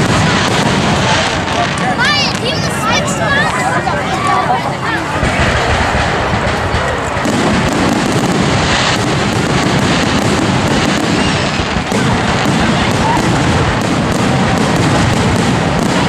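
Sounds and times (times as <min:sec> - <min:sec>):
fireworks bangs and crackle: 0:00.0 - 0:16.0.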